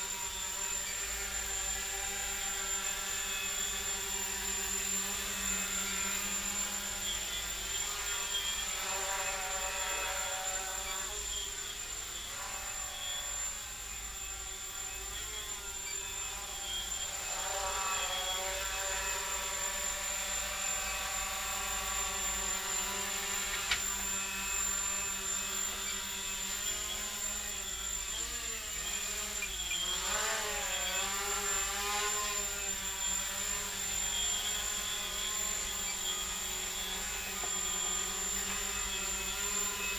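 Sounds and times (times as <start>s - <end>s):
quadcopter buzzing: 0.0s - 39.9s.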